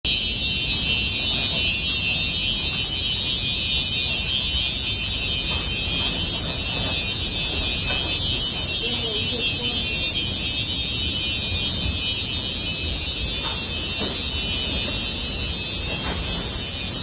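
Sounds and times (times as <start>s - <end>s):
high-pitched alarm tone: 0.0s - 17.0s.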